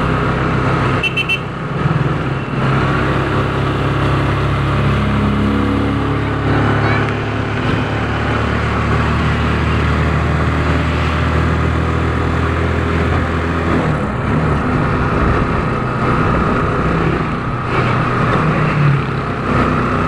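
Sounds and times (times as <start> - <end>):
engine hum: 0.0 - 20.0
road and wind noise: 0.0 - 20.0.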